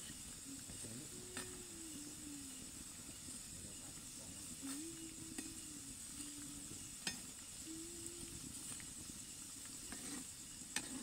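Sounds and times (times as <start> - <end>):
oil sizzling: 0.0 - 11.0.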